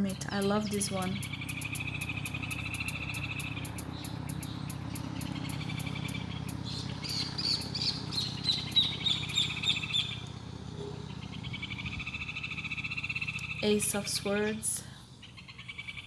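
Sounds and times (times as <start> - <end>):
bird chirping: 0.0 - 16.0
frogs croaking: 0.0 - 16.0
insects buzzing: 0.0 - 16.0.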